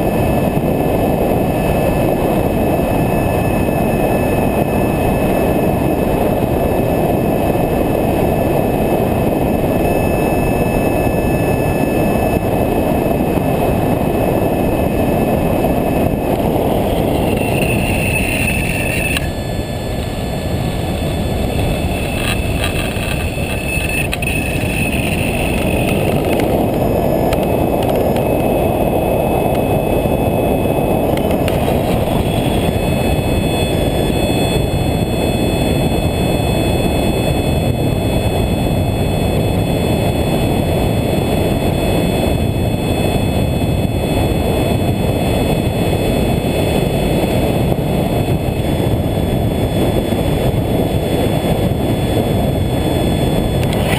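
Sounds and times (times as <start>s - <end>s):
model plane motor whine: 0.0s - 53.9s
wind rush: 0.0s - 53.9s.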